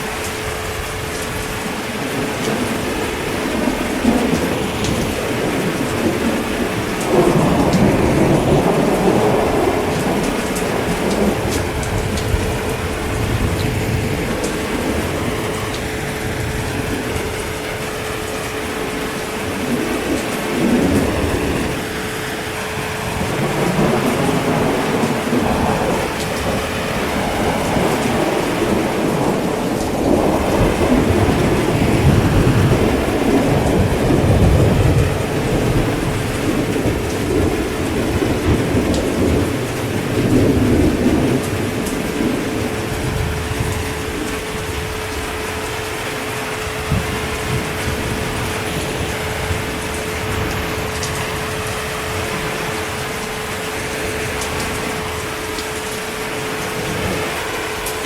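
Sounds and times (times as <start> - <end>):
heavy rain: 0.0 - 58.0
rolling thunder: 0.0 - 58.0.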